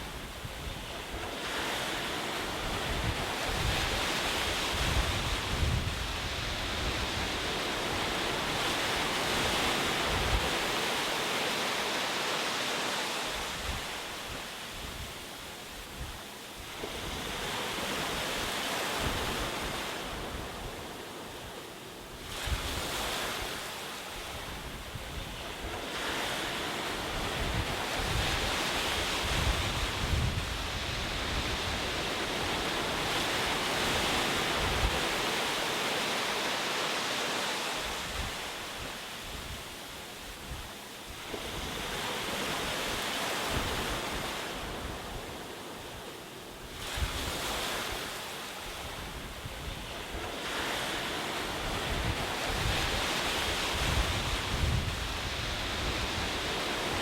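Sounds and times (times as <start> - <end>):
waves breaking and washing ashore: 0.0 - 57.0.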